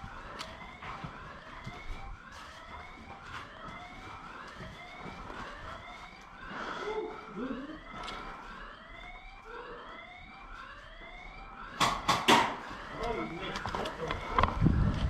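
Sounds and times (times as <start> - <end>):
electronic siren whooping: 0.0 - 15.0.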